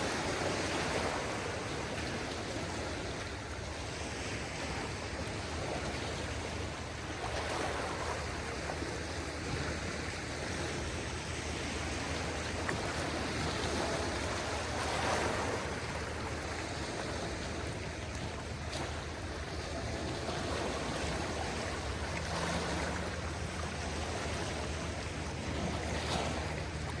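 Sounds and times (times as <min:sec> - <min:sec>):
sea waves washing onto beach: 0:00.0 - 0:27.0.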